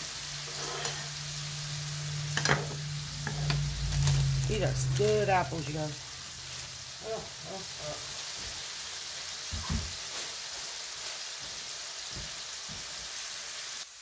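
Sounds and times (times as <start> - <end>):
patties sizzling in a frying pan: 0.0 - 14.0.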